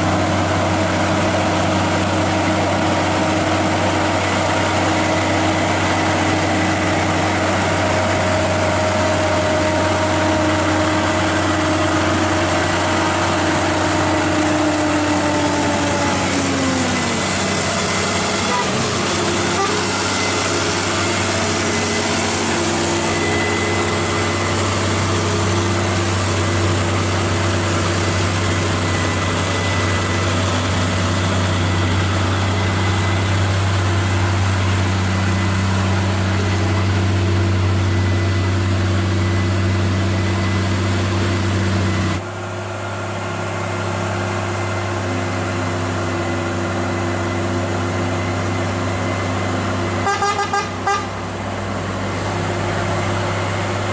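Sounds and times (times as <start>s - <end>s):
heavy truck engine running: 0.0s - 53.9s.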